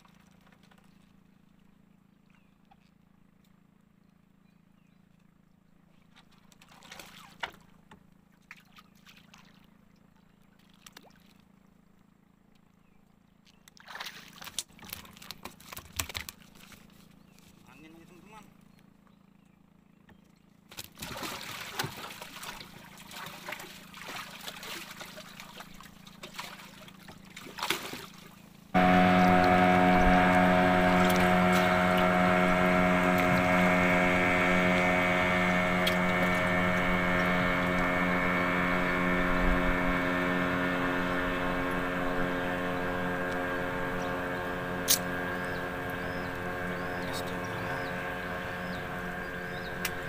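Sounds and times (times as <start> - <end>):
small boat engine running: 0.0 - 50.0.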